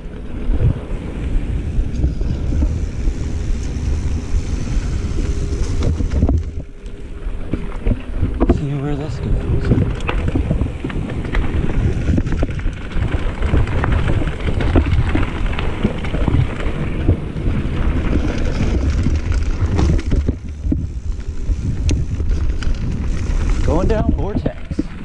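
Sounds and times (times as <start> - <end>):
bike clicks and rattles: 0.0 - 25.0
bike tyres on dirt: 0.0 - 25.0
wind on microphone: 0.0 - 25.0.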